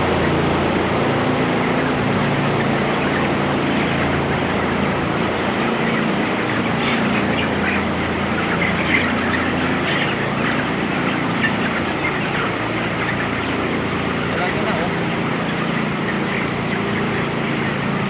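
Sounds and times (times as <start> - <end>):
chickens chirping and clucking: 0.0 - 18.0
ventilation fans humming: 0.0 - 18.0.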